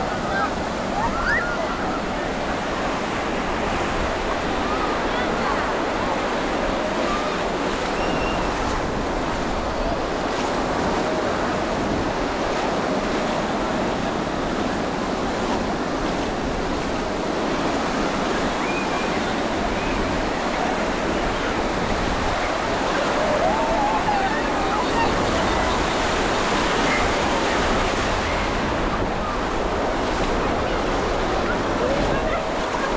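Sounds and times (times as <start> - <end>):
distant shouts and voices: 0.0 - 11.8, 17.6 - 32.9
waves breaking on shore: 0.0 - 32.9.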